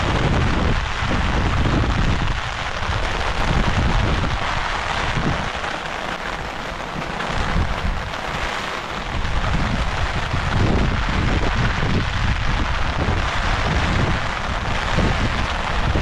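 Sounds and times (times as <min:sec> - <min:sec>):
heavy rain falling: 0:00.0 - 0:16.0
wind buffeting microphone: 0:00.0 - 0:16.0.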